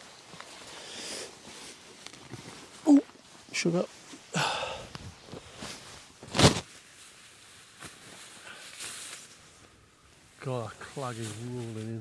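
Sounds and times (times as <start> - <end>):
soft rustling: 0.0 - 4.3, 4.9 - 12.0.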